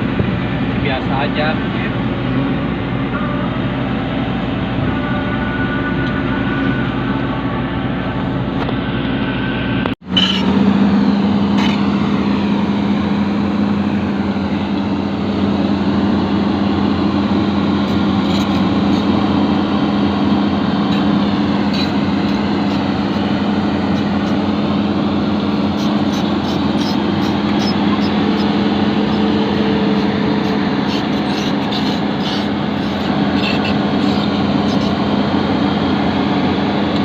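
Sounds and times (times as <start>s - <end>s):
excavator diesel engine humming: 0.0s - 37.0s.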